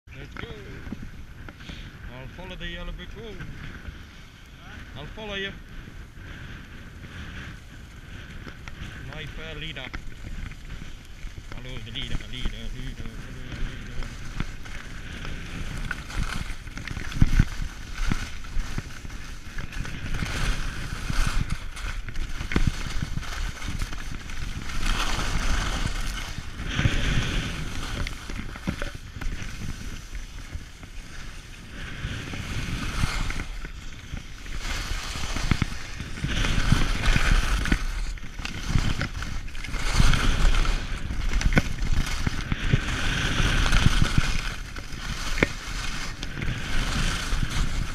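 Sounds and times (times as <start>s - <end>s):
skis scraping over snow: 0.1s - 47.9s
wind on microphone: 0.1s - 47.9s.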